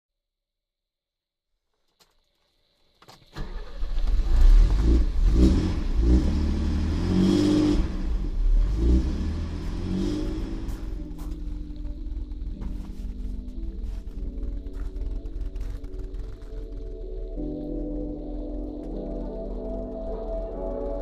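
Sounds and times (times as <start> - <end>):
car engine revving: 3.4 - 21.0.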